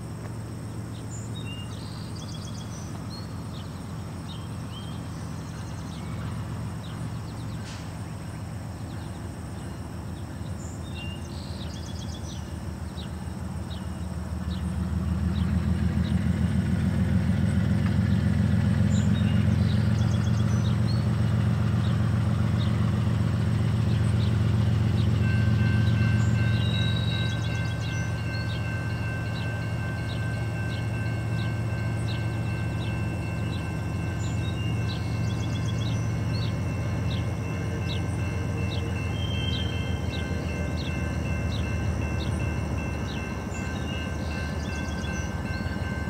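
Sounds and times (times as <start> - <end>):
diesel locomotive rumble: 0.0 - 46.0
birds singing: 0.7 - 16.4, 17.5 - 46.0.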